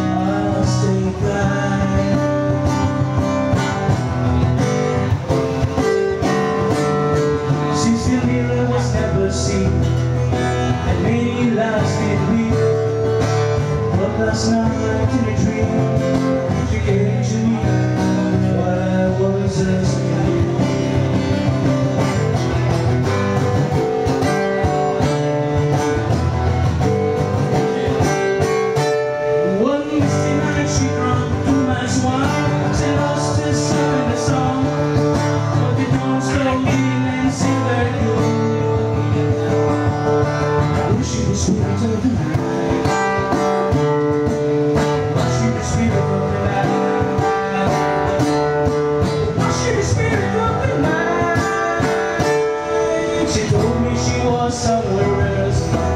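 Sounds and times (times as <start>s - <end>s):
acoustic guitar strummed: 0.0s - 55.9s.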